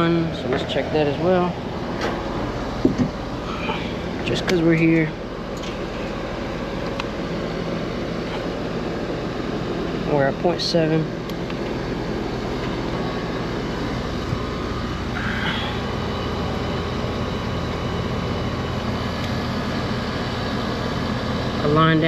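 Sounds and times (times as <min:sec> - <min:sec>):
compressor hum: 0:00.0 - 0:22.0
condenser fan whoosh: 0:00.0 - 0:22.0.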